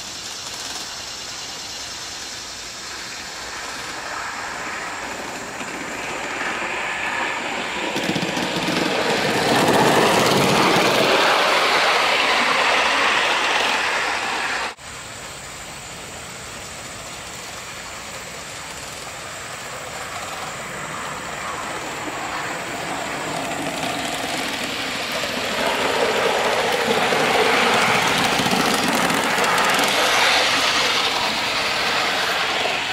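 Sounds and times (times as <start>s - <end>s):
model steam locomotive running: 0.0s - 32.9s.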